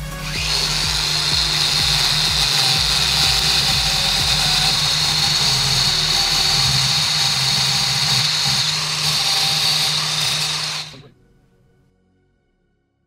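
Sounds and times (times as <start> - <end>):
angle grinder grinding steel: 0.0 - 11.1.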